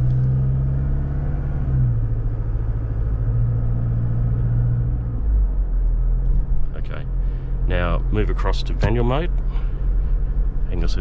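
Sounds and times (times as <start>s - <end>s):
diesel engine accelerating: 0.0s - 11.0s.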